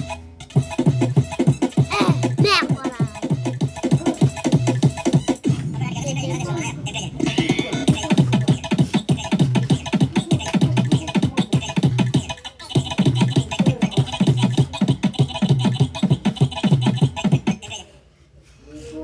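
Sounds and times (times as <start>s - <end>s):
dance music beat: 0.0s - 17.8s.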